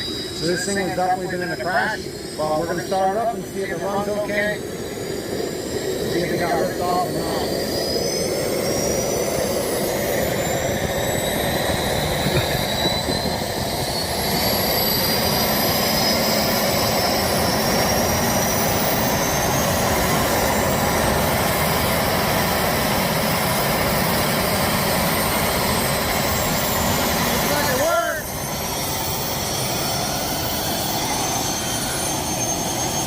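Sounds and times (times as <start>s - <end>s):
small jet engine whining: 0.0s - 33.0s.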